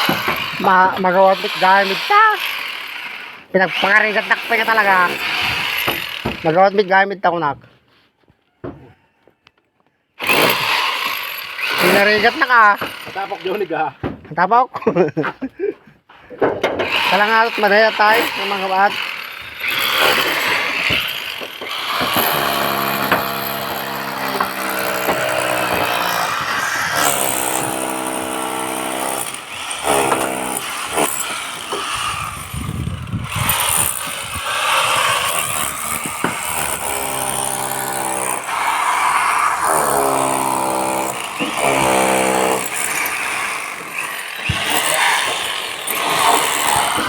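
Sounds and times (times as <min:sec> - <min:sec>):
electric hammer drill running: 0:00.0 - 0:06.6, 0:10.2 - 0:13.7, 0:16.9 - 0:47.0.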